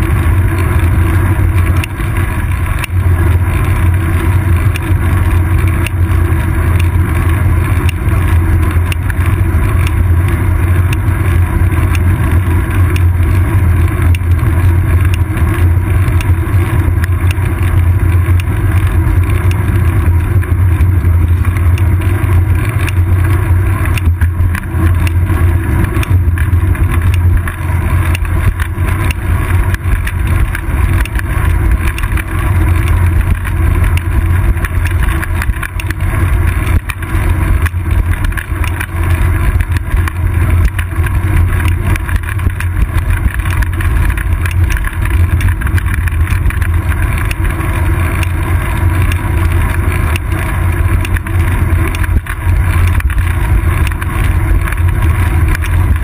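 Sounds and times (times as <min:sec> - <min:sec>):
road vibration: 0:00.0 - 0:56.0
wind rumble: 0:00.0 - 0:56.0.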